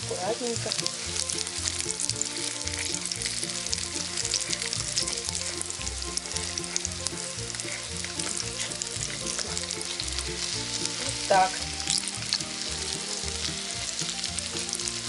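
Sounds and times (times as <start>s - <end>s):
pancakes sizzling in oil: 0.0s - 15.0s.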